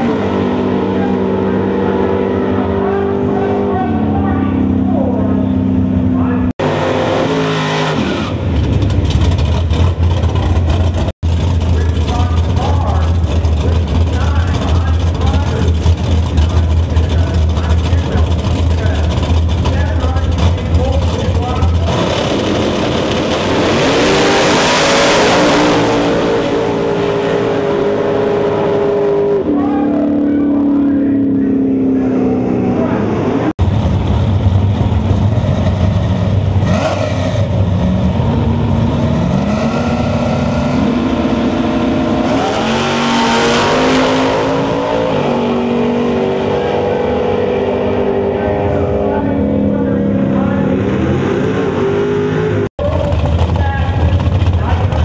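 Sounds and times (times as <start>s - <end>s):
race cars accelerating full throttle: 0.0s - 55.0s.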